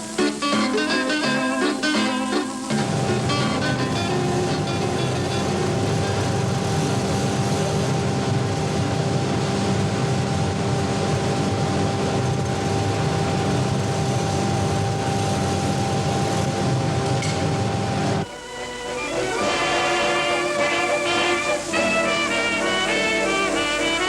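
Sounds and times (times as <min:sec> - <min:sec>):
constant hum: 0:00.0 - 0:24.0
steady mechanical drone: 0:00.0 - 0:24.0.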